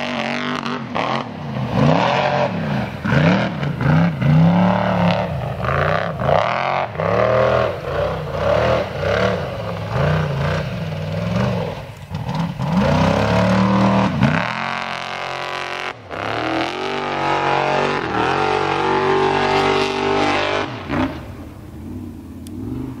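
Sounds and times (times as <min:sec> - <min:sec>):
buggy engine revving: 0:00.0 - 0:23.0.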